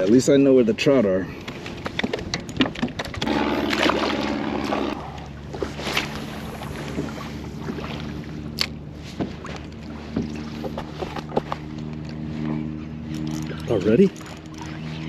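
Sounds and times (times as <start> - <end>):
low hum of kayak drive: 0.0 - 15.0.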